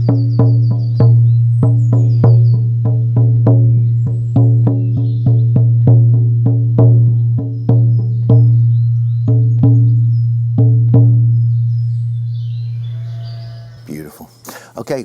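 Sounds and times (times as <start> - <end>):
frame drum beat: 0.0 - 12.2.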